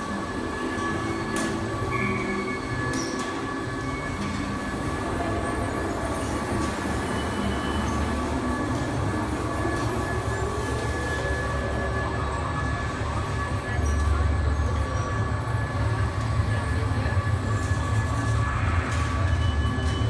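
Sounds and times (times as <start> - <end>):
carousel machinery rumbling: 0.0 - 20.0
thin constant whine: 0.0 - 20.0.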